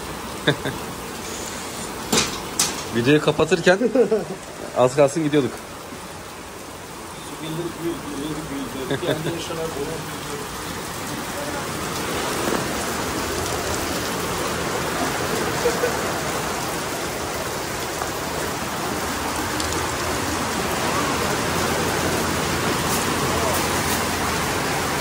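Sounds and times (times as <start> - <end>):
rain falling and splashing: 0.0 - 25.0.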